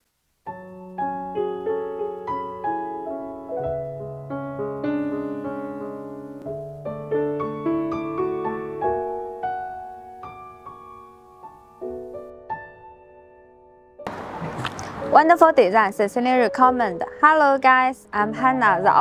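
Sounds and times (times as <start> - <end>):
slow piano music: 0.4 - 19.0.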